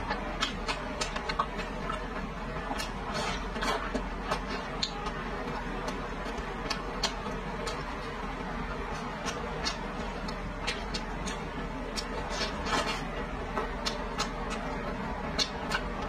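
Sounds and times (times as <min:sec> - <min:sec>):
steady low hum: 0:00.0 - 0:16.0
wet chewing mouth clicks: 0:00.1 - 0:08.0, 0:08.9 - 0:16.0.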